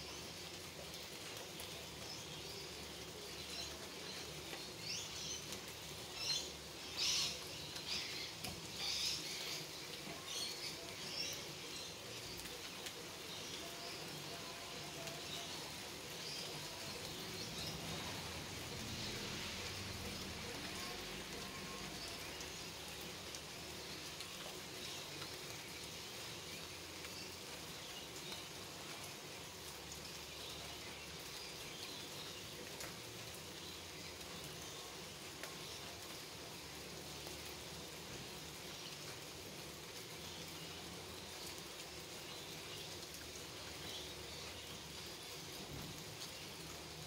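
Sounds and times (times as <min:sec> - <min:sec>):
rain falling on leaves and grass: 0:00.0 - 0:47.0.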